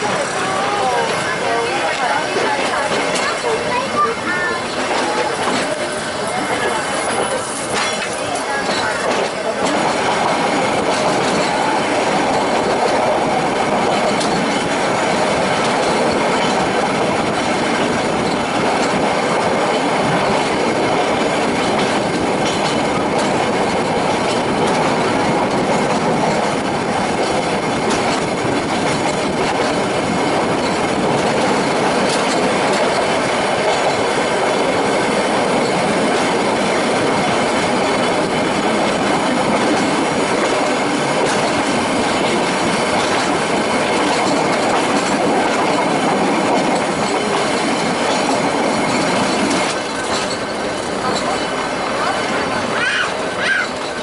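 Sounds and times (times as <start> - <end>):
clickety-clack of rails: 0.0 - 54.0
train wheels rattling on rails: 0.0 - 54.0.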